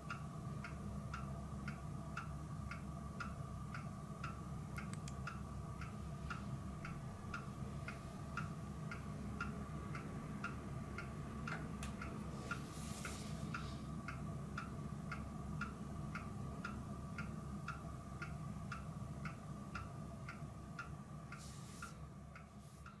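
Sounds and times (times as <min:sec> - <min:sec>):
low continuous hum: 0:00.0 - 0:23.0.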